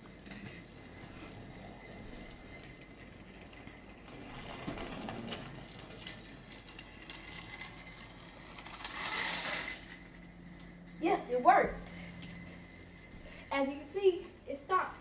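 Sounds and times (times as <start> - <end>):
toy train motor running: 0.0 - 14.9.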